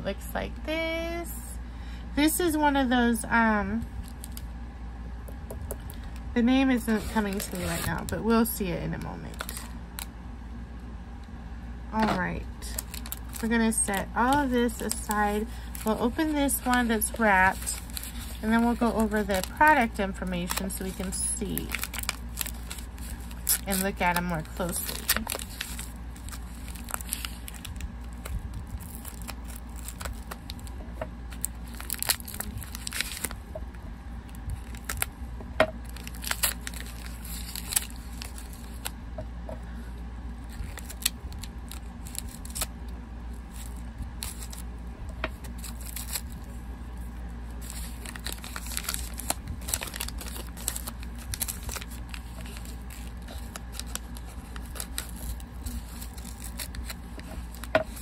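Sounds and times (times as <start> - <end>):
wrapping tearing and crinkling: 4.0 - 4.5, 5.9 - 8.2, 9.0 - 10.1, 12.0 - 33.5, 34.2 - 35.2, 35.8 - 39.0, 40.4 - 44.7, 45.3 - 58.0.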